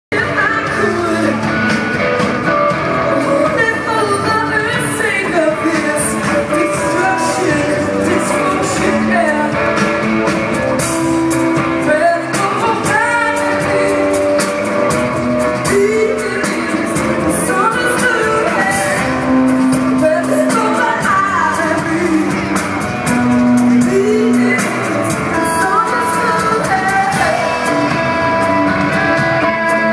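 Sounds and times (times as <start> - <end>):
person singing: 0.1 - 2.0, 2.7 - 29.9
drums keeping a steady beat: 0.1 - 29.9
live band playing: 0.1 - 29.9.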